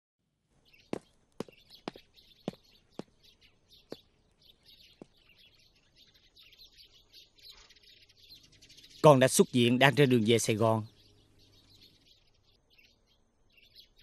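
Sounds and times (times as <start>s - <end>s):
birds chirping: 0.5s - 14.0s.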